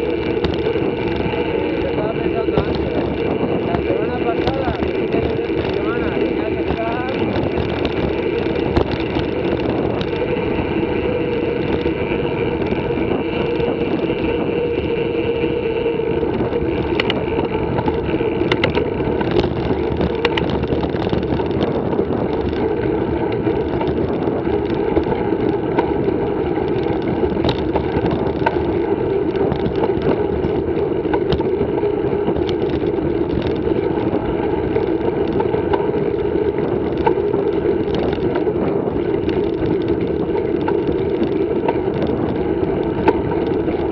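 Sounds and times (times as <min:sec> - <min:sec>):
bike clicks and rattles: 0:00.0 - 0:43.9
bike tyres rolling on concrete: 0:00.0 - 0:43.9
wind on microphone: 0:00.0 - 0:43.9.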